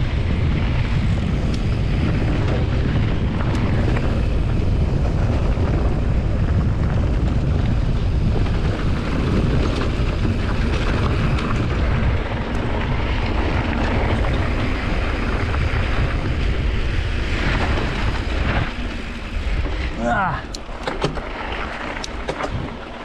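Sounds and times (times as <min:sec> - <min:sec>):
bike clicks and rattles: 0:00.0 - 0:23.0
wind buffeting microphone: 0:00.0 - 0:23.0.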